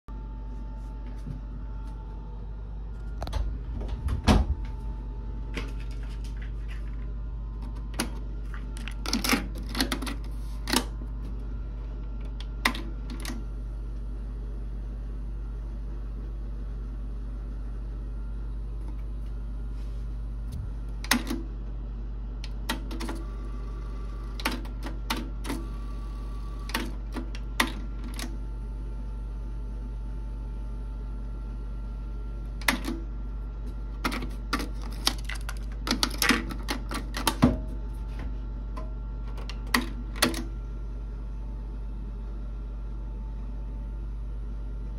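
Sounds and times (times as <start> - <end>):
steady low hum: 0.1 - 44.9.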